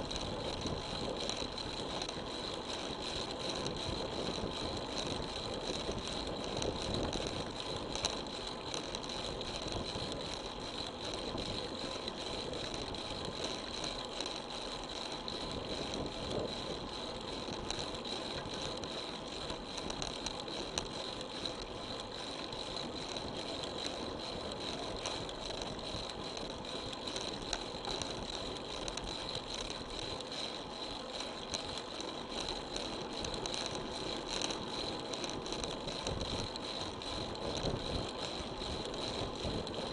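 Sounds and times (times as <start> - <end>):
bicycle tyre road noise: 0.0 - 39.9
bike rattling: 0.0 - 39.9.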